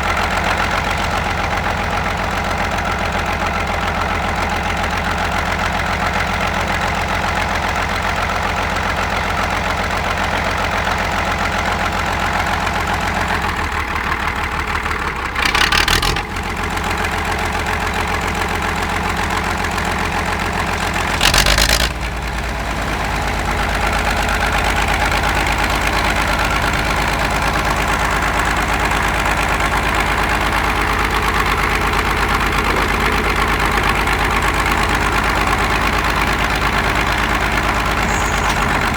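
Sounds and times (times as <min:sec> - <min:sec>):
heavy engine idling with knocking: 0:00.0 - 0:38.9.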